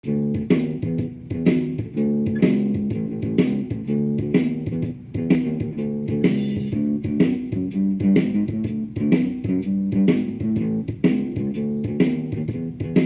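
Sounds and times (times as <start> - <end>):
electric guitar blues loop: 0.0 - 13.0.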